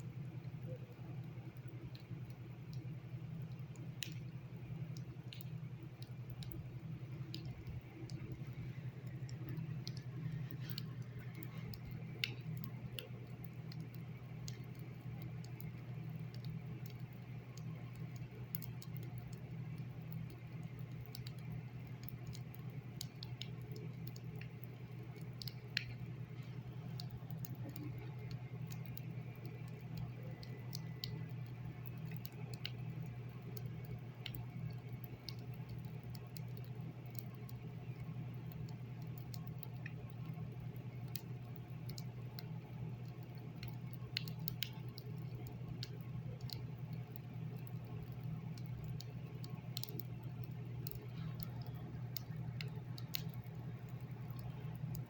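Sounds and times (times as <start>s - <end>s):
faint irregular clicks: 0.0s - 55.0s
steady low hum: 0.0s - 55.0s.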